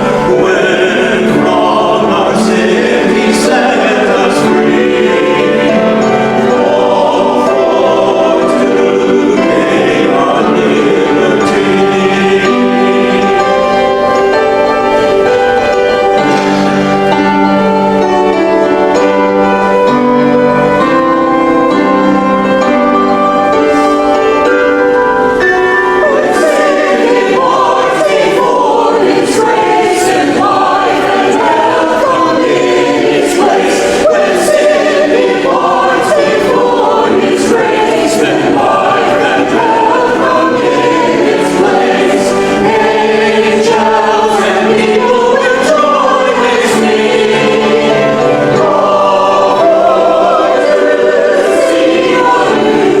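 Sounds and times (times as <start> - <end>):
church choir singing: 0.0 - 53.0
instrumental accompaniment: 0.0 - 53.0.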